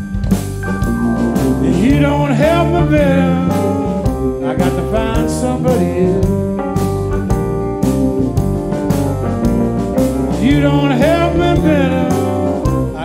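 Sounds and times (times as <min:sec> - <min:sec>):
blues band playing: 0:00.0 - 0:13.0.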